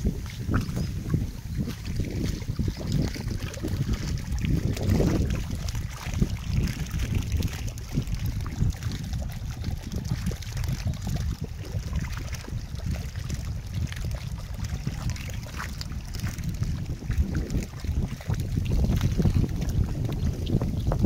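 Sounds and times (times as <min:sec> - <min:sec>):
shallow water trickling: 0:00.0 - 0:21.0
wind rumbling on microphone: 0:00.0 - 0:21.0.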